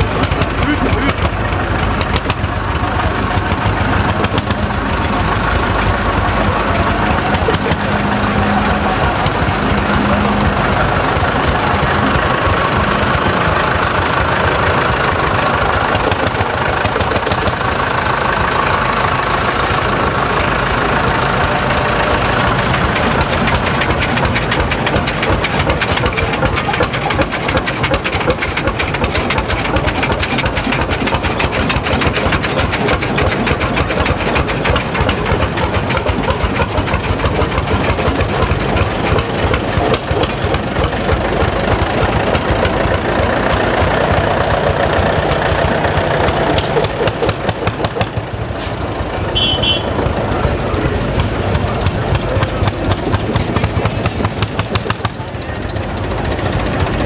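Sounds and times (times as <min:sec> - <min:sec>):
rapid knocking tractor engine: 0:00.0 - 0:57.0
tractor engines driving past: 0:00.0 - 0:57.0.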